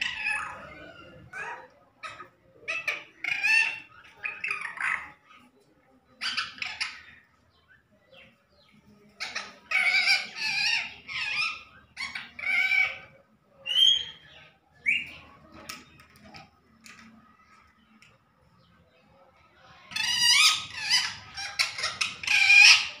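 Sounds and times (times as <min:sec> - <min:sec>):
parakeet calling and chattering: 0:00.0 - 0:05.5, 0:06.2 - 0:16.0, 0:19.6 - 0:23.0.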